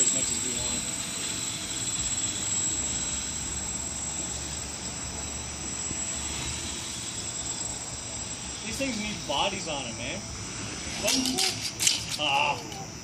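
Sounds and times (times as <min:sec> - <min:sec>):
quadcopter propellers whirring: 0:00.0 - 0:13.0.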